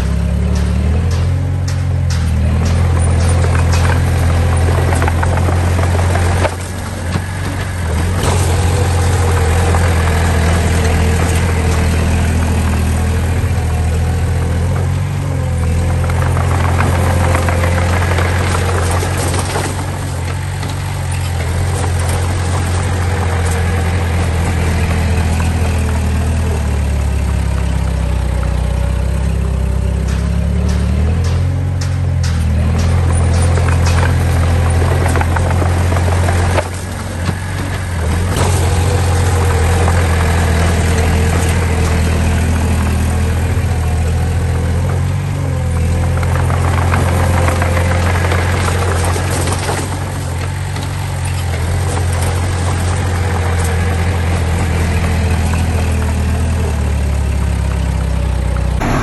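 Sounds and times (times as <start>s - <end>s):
scattered metal clanks: 0.0s - 56.2s
heavy diesel engine running: 0.0s - 59.0s.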